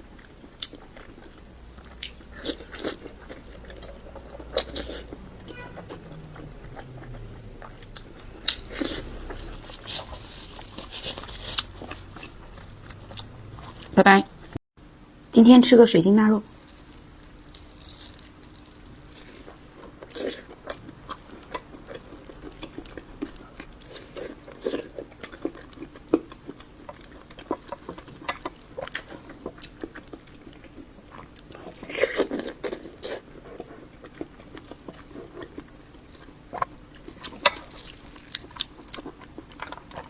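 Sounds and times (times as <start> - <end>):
chewing and biting meat: 0.0 - 14.6, 16.5 - 40.0.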